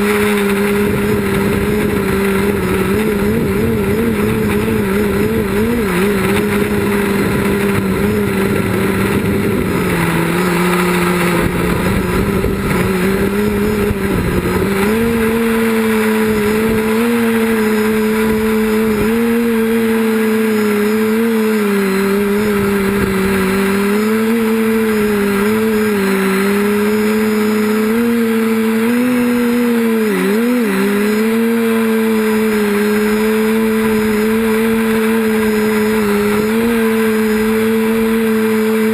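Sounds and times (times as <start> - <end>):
quadcopter propellers buzzing: 0.0 - 38.9.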